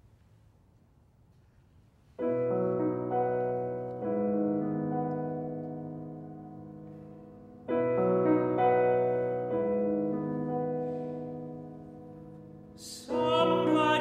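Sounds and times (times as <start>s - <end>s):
grand piano chords: 2.0s - 14.0s.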